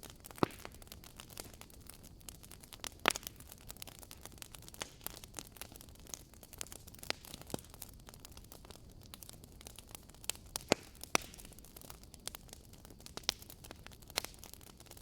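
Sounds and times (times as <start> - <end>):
loud fire pops: 0.0 - 15.0
wood fire crackling: 0.0 - 15.0.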